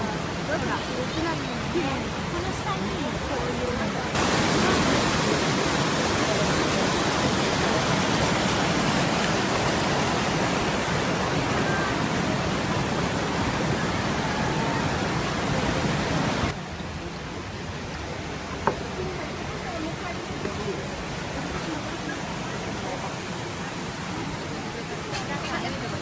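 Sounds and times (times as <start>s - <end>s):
waterfall and rapids roaring: 0.0s - 26.0s.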